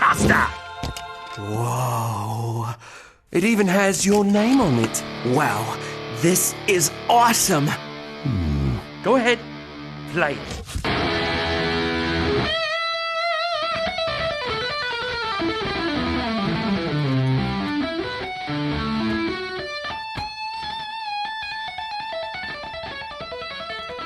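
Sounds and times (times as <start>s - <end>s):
electric guitar solo: 4.4s - 24.0s.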